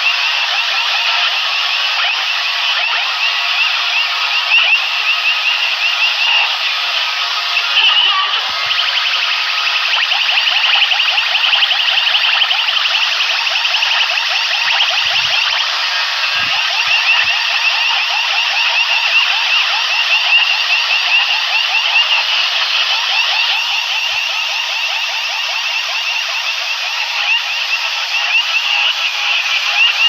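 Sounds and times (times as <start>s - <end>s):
electronic siren alarm chirps: 0.0s - 30.0s.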